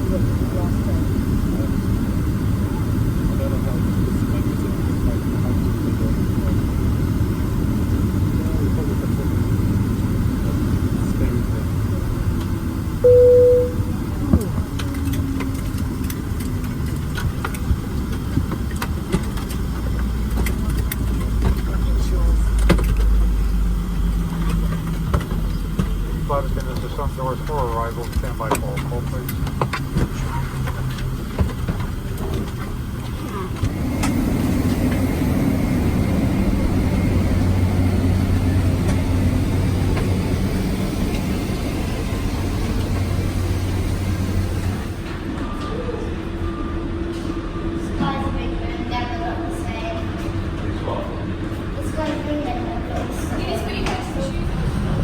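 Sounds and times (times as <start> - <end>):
aircraft engines idling rumble: 0.0 - 55.0
airplane cabin low hum: 0.0 - 55.0.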